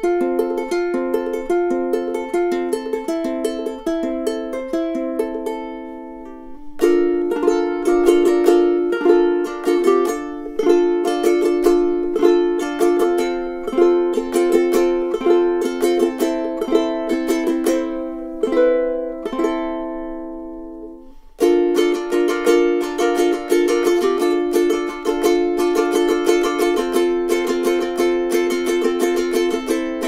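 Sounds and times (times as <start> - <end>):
ukulele playing: 0.0 - 30.0.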